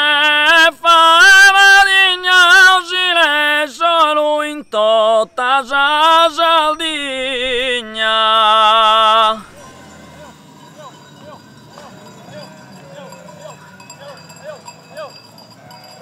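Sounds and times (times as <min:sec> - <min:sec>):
man singing with trills: 0:00.0 - 0:16.0.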